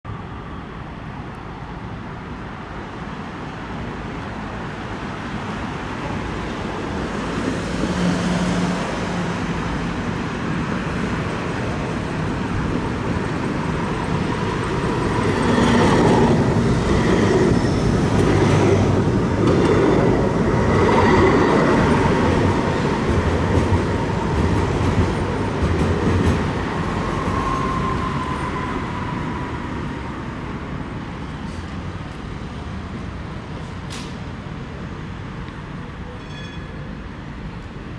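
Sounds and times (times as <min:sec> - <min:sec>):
road traffic: 0:00.0 - 0:37.9
tram high whine: 0:00.1 - 0:37.9
tram wheels rumbling on rails: 0:01.1 - 0:37.9.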